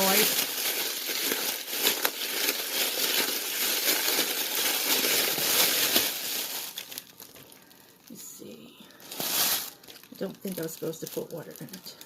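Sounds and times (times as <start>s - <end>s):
plastic bag crinkling: 0.0s - 8.2s, 8.9s - 12.0s.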